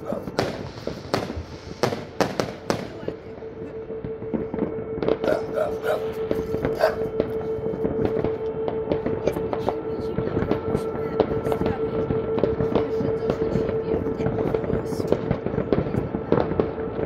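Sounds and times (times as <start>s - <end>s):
fireworks bangs and pops: 0.0s - 17.0s
steady humming tone: 0.0s - 17.0s.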